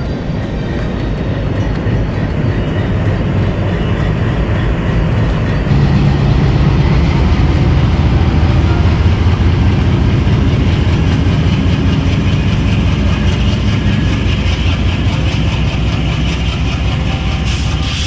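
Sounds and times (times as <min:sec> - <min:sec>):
faint rail clicks: 0:00.0 - 0:18.0
train wheels rumbling on rails: 0:00.0 - 0:18.0.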